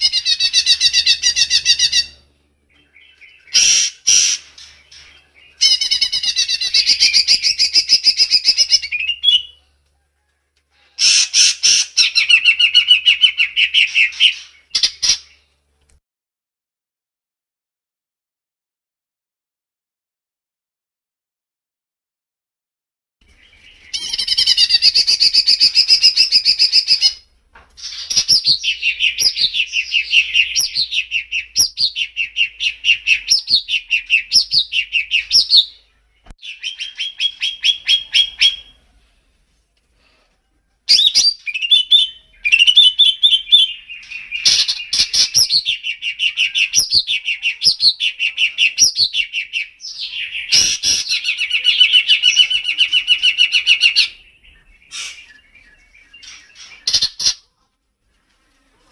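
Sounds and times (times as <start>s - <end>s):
songbird chirping and whistling: 0.0s - 9.8s, 10.8s - 15.6s, 23.2s - 39.4s, 40.8s - 57.4s.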